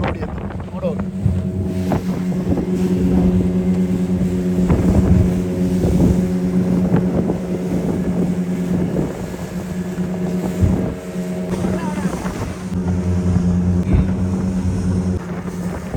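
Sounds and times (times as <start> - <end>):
hull knocking and splashing on waves: 0.0 - 15.9
outboard motor running: 0.0 - 15.9
wind on microphone: 0.0 - 15.9.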